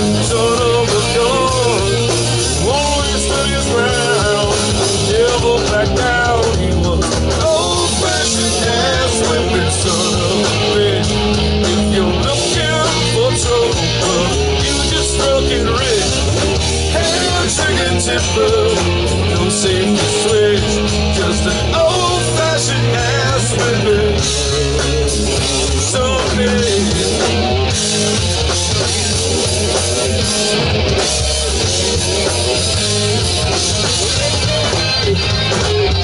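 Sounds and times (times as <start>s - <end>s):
man singing lead: 0.0s - 27.7s, 31.3s - 36.0s
bass guitar: 0.0s - 36.0s
drums: 0.0s - 36.0s
electric guitars: 0.0s - 36.0s.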